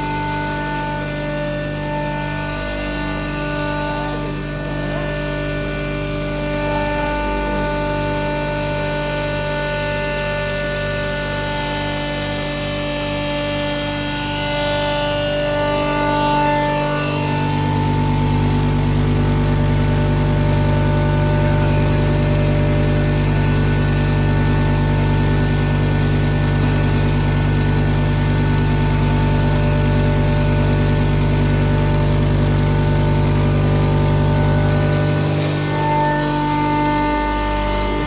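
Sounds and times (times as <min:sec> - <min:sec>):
grain grinder mechanical hum: 0:00.0 - 0:38.0.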